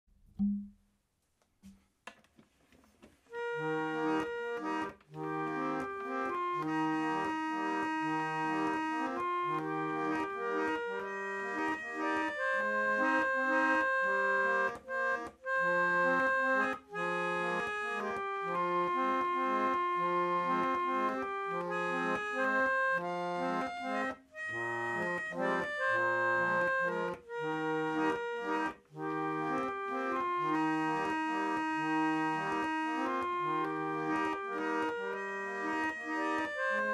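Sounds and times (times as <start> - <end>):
roller organ playing a tune: 3.3 - 36.9.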